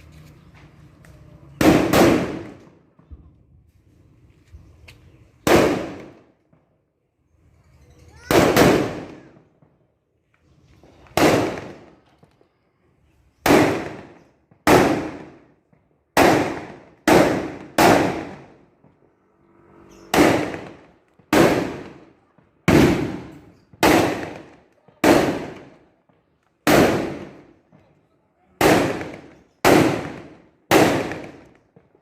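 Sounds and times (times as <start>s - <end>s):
firecrackers exploding with echo: 1.0s - 3.2s, 5.2s - 6.8s, 8.2s - 32.0s.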